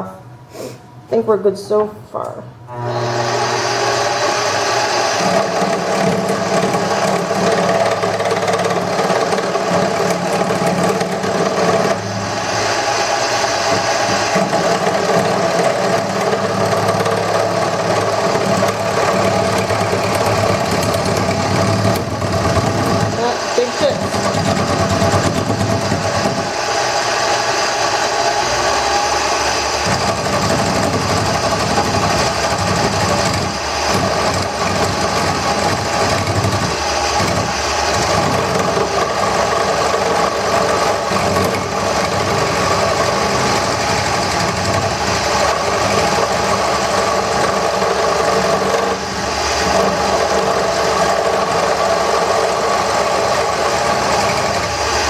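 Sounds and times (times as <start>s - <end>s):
wood lathe motor hum: 2.7s - 55.0s
gouge scraping spinning wood: 2.8s - 55.0s.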